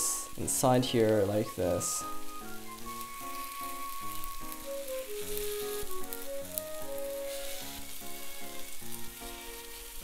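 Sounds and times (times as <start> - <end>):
background music melody: 0.0 - 10.0
batter sizzling in a pan: 0.0 - 10.0.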